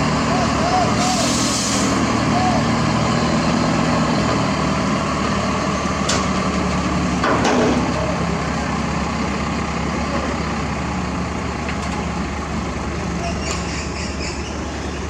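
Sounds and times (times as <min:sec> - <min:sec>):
heavy diesel engines running: 0:00.0 - 0:15.0.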